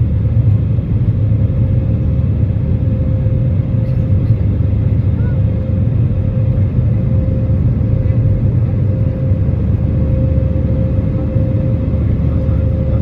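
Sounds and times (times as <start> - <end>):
jet engine rumble in cabin: 0.0 - 13.0.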